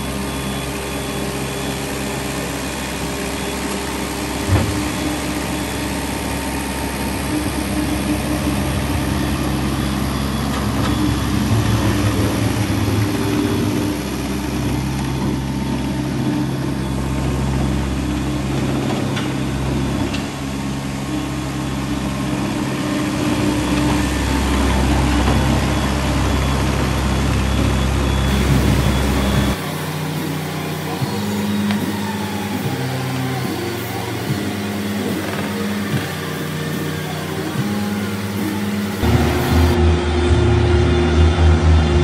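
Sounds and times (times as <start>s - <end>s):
tracked loader engine running: 0.0s - 42.0s.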